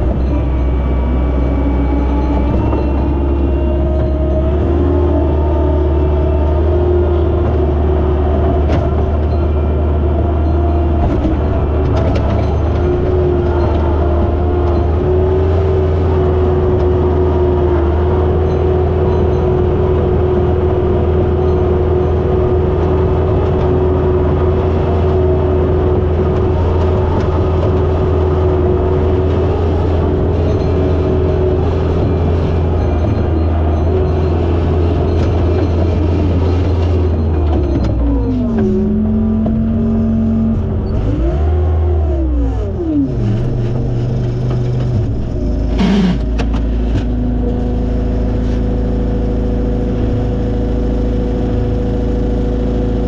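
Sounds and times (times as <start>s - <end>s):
skid steer engine running: 0.0s - 53.0s.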